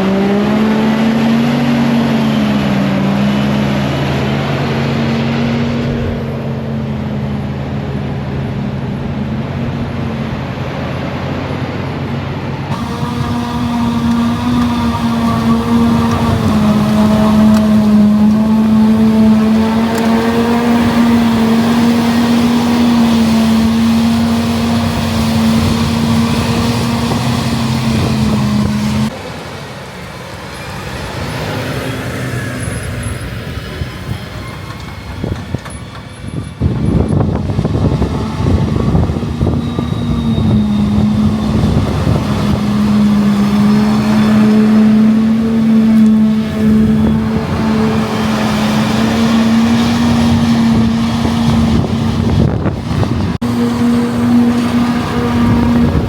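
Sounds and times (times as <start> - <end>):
harvest machinery engine hum: 0.0 - 56.0
rough machine noise: 0.0 - 56.0.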